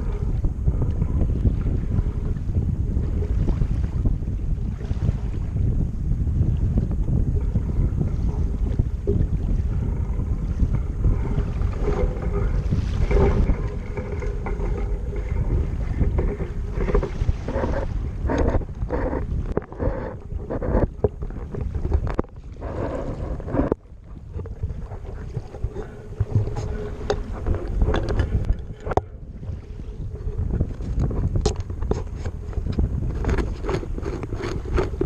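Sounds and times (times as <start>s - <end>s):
water washing against hull: 0.0s - 35.0s
wind buffeting microphone: 0.0s - 35.0s.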